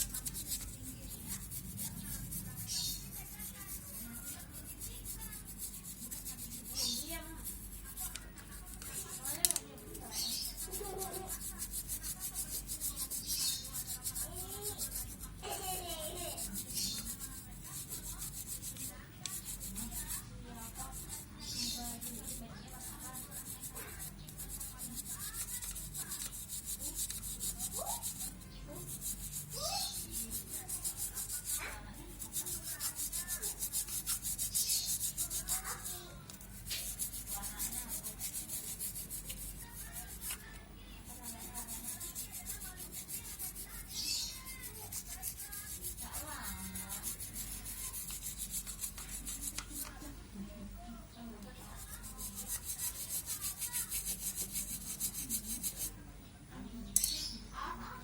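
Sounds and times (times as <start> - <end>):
rapid rubbing strokes: 0.0 - 50.0, 51.6 - 55.9
stiff brush scrubbing: 0.0 - 50.1, 51.5 - 56.0.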